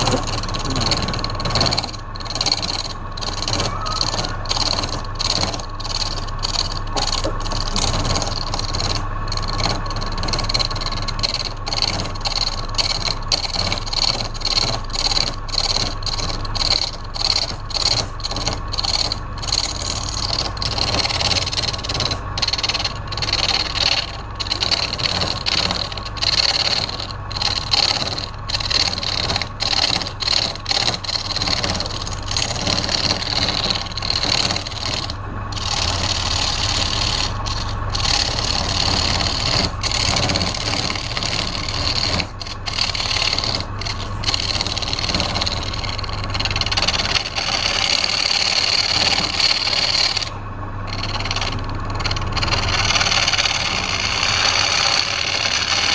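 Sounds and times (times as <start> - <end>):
lathe motor hum: 0.0 - 55.9
turning tool scraping spinning wood: 0.0 - 55.9.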